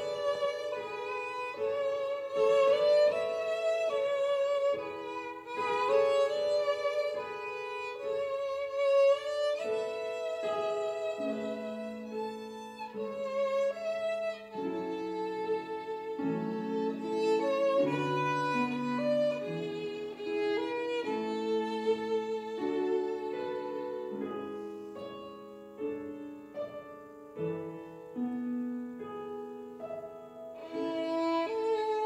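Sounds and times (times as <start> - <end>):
violin playing slow melody: 0.0 - 32.0.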